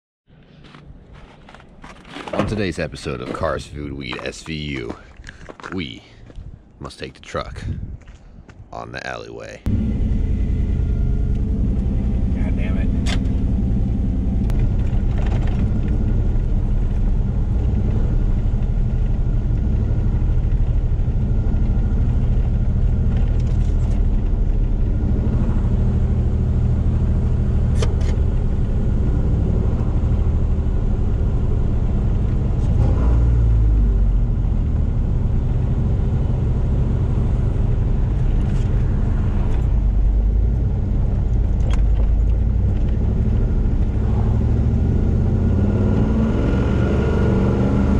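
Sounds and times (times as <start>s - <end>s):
truck engine and road noise: 0.3s - 47.9s.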